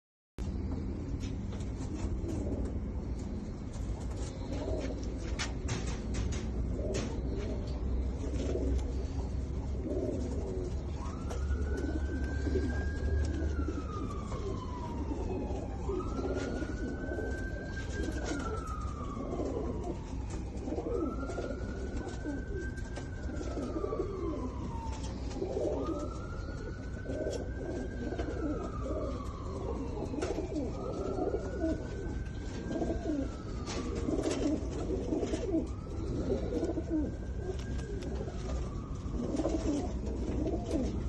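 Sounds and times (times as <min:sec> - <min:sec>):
siren-like wail: 0:00.4 - 0:41.0
pigeons cooing: 0:00.5 - 0:41.0.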